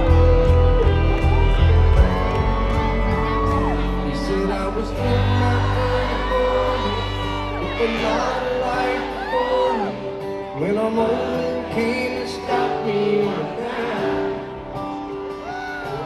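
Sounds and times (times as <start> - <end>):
live country band through pa: 0.0 - 16.0.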